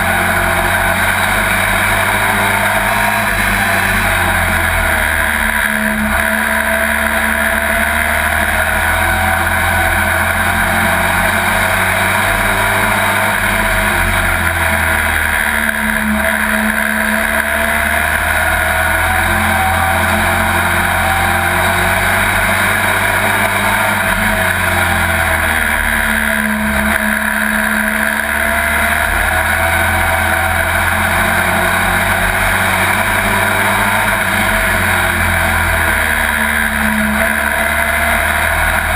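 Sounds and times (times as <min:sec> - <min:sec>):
race truck engine revving: 0:00.0 - 0:38.9.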